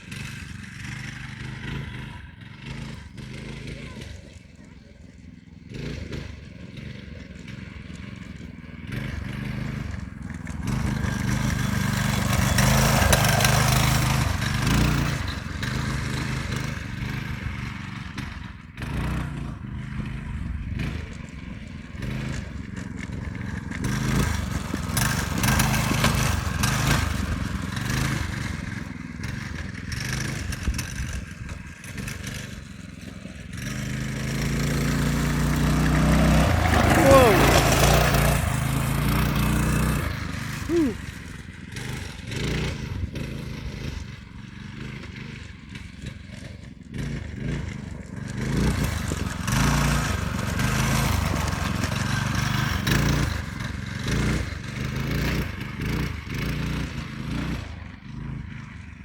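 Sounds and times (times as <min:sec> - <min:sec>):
go-kart engine passing: 0:00.0 - 0:59.0.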